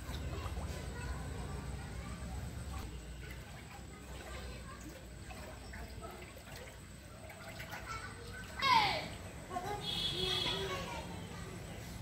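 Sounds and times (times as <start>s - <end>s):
water lapping and trickling: 0.0s - 12.0s.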